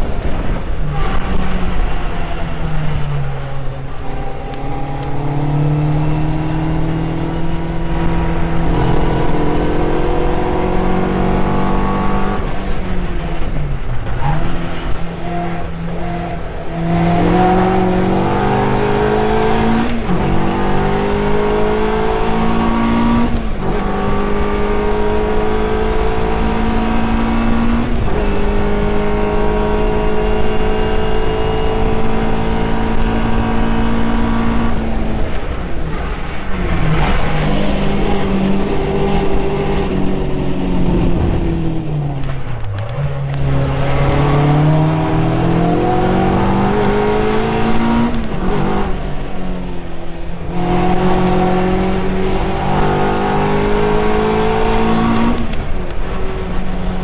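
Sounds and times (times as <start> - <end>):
car engine accelerating and shifting: 0.0 - 57.0.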